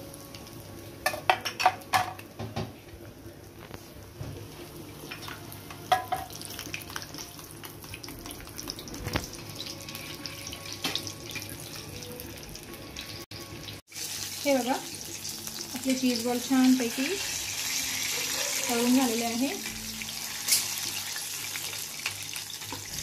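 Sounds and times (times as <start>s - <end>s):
deep-frying bubbling sizzle: 0.0s - 23.0s.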